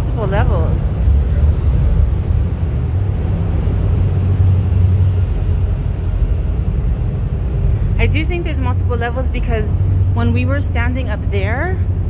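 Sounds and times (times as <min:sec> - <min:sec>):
low tunnel boom: 0:00.0 - 0:12.0
vehicles passing in tunnel: 0:00.0 - 0:12.0.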